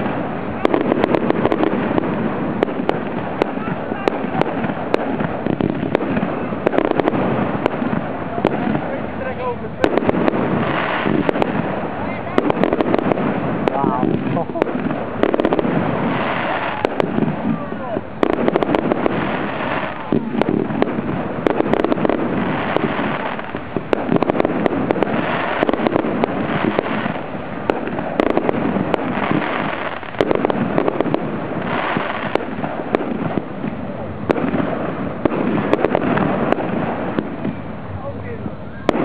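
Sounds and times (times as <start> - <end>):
firework crackling: 0.0 - 39.0
firework shells bursting: 0.0 - 39.0.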